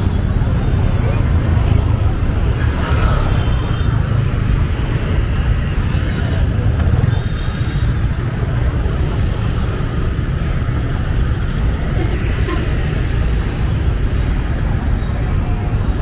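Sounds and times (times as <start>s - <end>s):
passing traffic: 0.0s - 16.0s.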